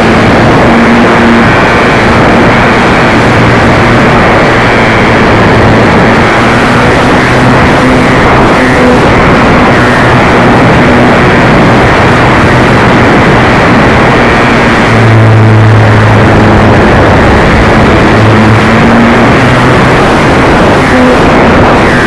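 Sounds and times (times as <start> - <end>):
loud rushing noise: 0.0 - 22.0
model airplane engine droning: 0.0 - 22.0.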